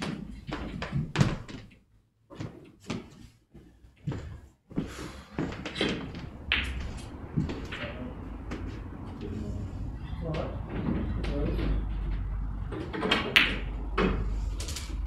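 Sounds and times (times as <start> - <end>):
sharp knocks and dull thumps: 0.0 - 3.2, 4.1 - 9.4, 10.2 - 15.0.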